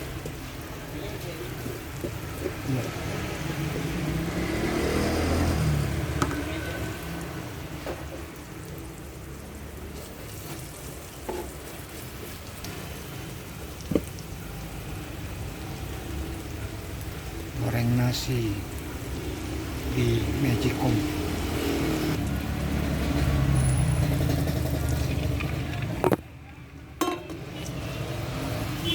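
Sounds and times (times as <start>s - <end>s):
food sizzling: 0.0s - 28.9s.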